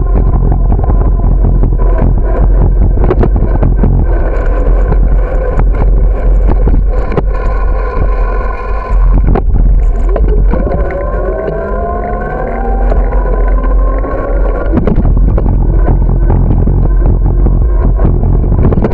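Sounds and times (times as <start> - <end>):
bicycle rolling on pavement: 0.0 - 18.9
whining hum: 0.0 - 18.9
wind buffeting microphone: 0.0 - 18.9.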